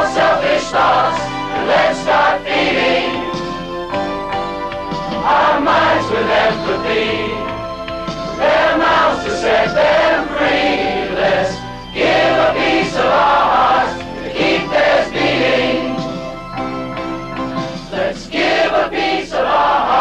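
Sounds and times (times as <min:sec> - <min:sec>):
mixed choir singing: 0:00.0 - 0:16.8, 0:17.6 - 0:20.0.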